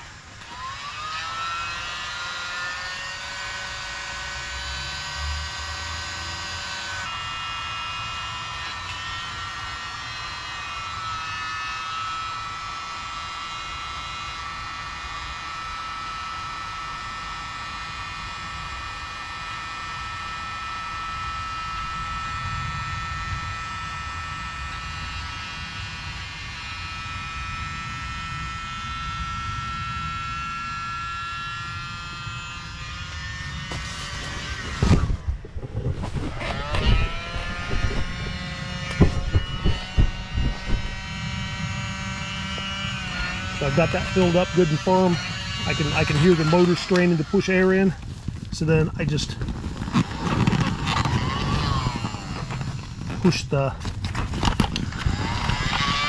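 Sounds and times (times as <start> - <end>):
air pump motor whine: 0.0 - 56.0.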